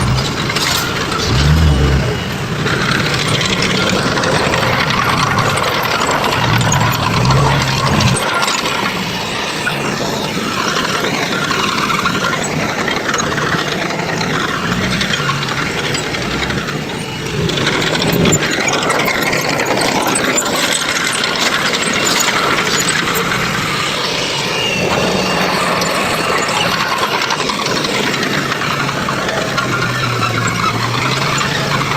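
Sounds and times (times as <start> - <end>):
heavy machinery engine hum: 0.0 - 31.9
mechanical clanking and rattling: 0.0 - 31.9.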